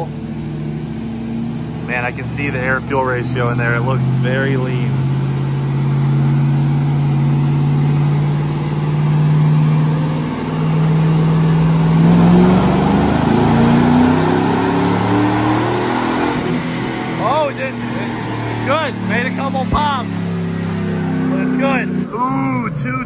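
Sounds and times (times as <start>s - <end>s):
engine revving with spark knock: 0.0s - 22.0s.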